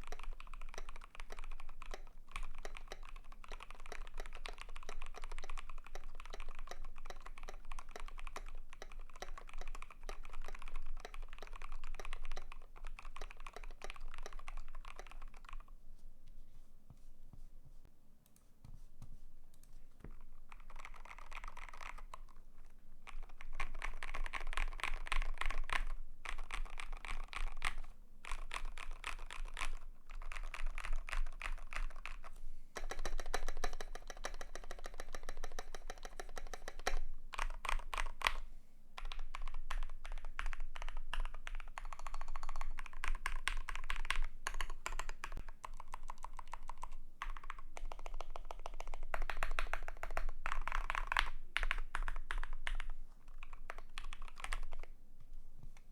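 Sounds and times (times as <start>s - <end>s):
mechanical keyboard typing: 0.0s - 15.7s, 20.1s - 38.4s, 39.0s - 54.9s.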